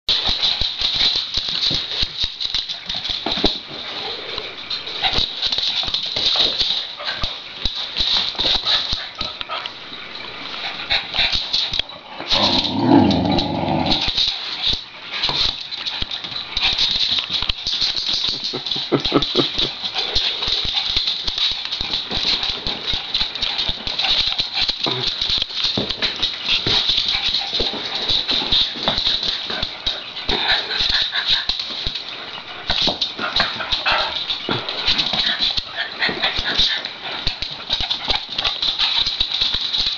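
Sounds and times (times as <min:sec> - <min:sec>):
small dogs playing: 0:00.1 - 0:39.9.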